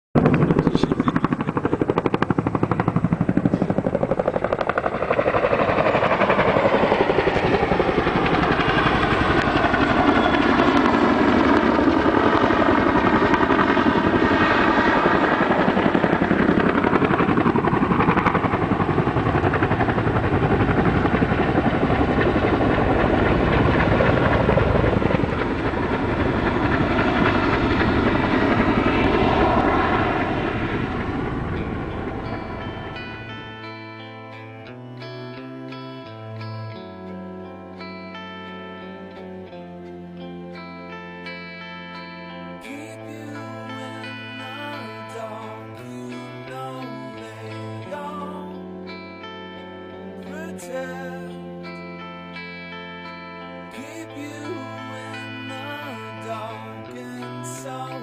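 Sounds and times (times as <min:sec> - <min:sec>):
helicopter rotors and turbines: 0:00.2 - 0:58.0.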